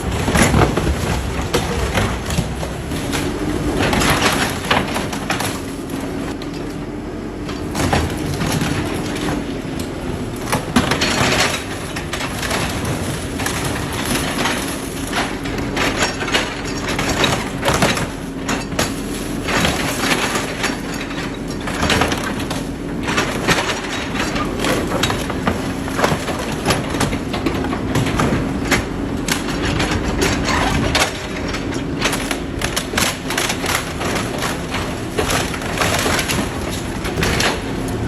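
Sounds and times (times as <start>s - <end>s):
metal crunching and cracking: 0.0s - 38.0s.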